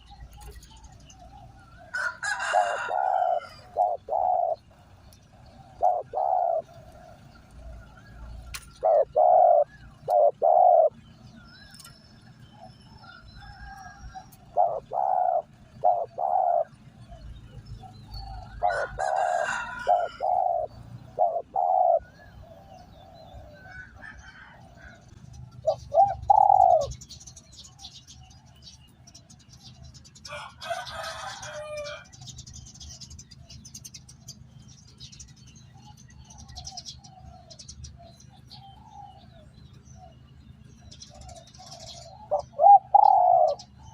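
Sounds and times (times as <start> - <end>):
dove cooing: 0.0 - 28.5, 35.8 - 43.9.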